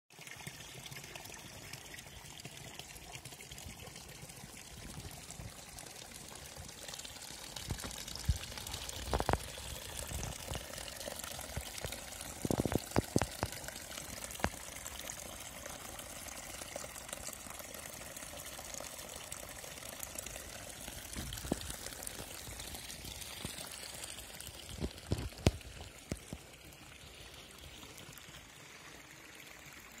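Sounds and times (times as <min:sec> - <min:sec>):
fountain water splashing: 0:01.7 - 0:30.0.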